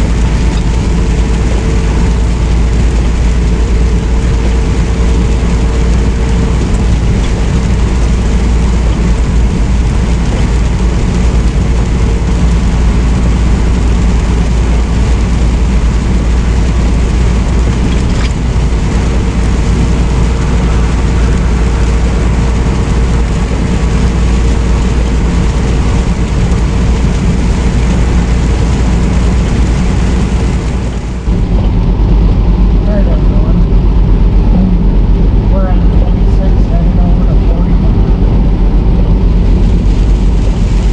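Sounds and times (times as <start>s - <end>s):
road noise: 0.0s - 40.9s
truck engine drone: 0.0s - 40.9s.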